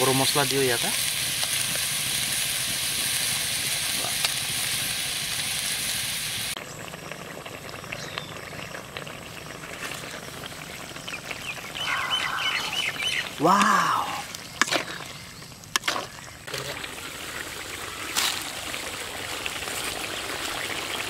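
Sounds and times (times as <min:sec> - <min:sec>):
curry boiling and sizzling: 0:00.0 - 0:21.0.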